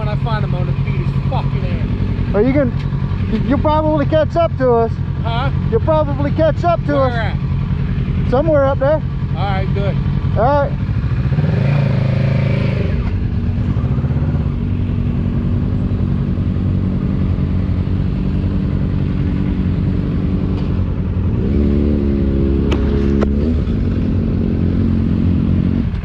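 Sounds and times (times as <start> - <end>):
motorcycle engine running: 0.0 - 26.0
road and wind noise: 0.0 - 26.0.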